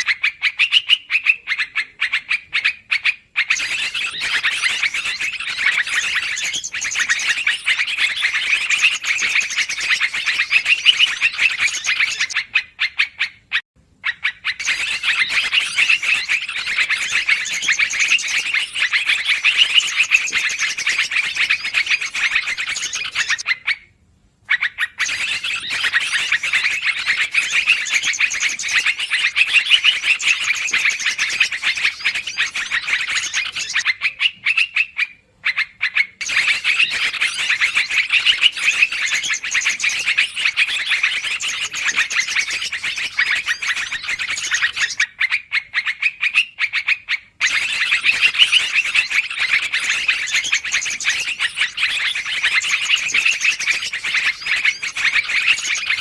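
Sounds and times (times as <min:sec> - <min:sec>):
bulbuls chattering noisily: 0:00.1 - 0:12.8, 0:14.1 - 0:23.5, 0:25.0 - 0:45.1, 0:47.4 - 0:56.0.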